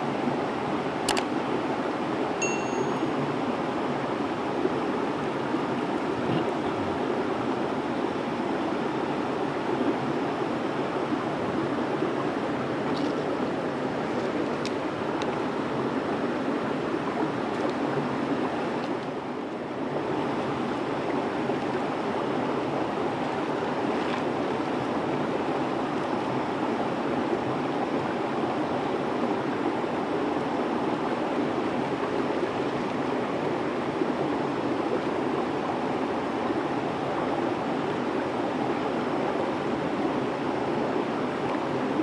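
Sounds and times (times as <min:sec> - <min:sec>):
river water running over rocks: 0:00.0 - 0:42.0.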